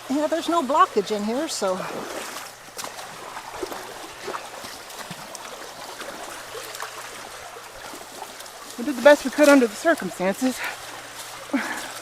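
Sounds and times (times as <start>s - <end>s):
small water splashes: 0.0s - 12.0s
water running and trickling: 0.0s - 12.0s.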